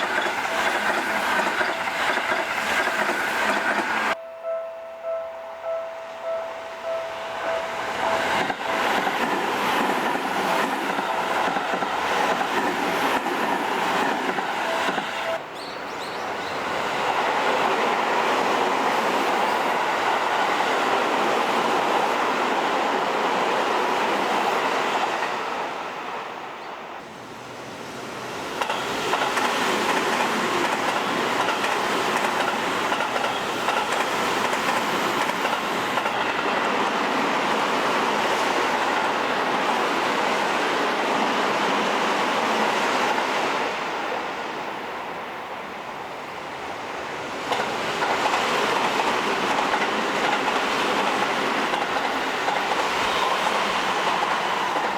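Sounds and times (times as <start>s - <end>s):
electric train running on rails: 0.0s - 54.9s.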